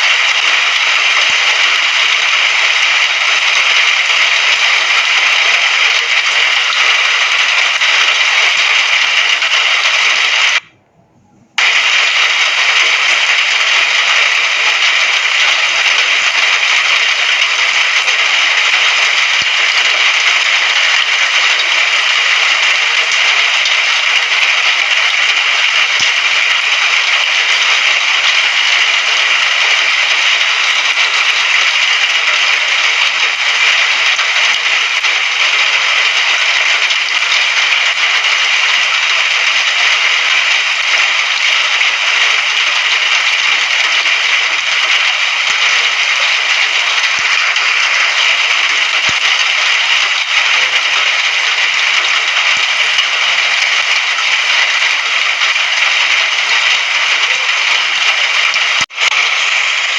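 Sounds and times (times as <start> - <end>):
steady rain hiss: 0.0 - 10.7, 11.6 - 59.9.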